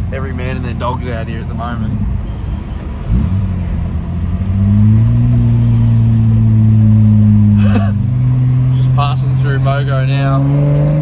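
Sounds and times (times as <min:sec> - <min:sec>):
car engine droning in cabin: 0:00.0 - 0:11.0.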